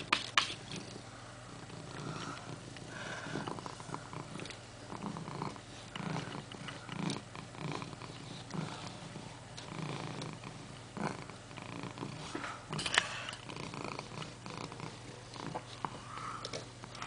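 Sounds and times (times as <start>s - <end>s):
cat purring: 0.6s - 17.0s.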